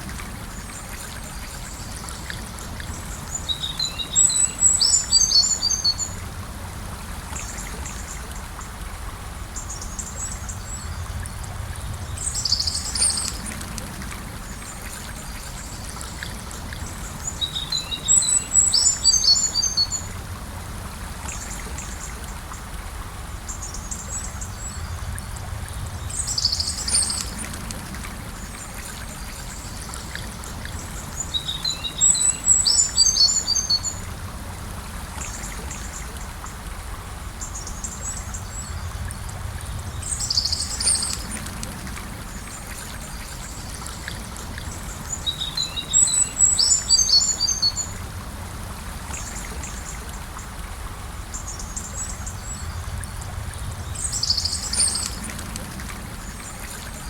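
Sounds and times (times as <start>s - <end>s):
river flowing: 0.0s - 57.0s.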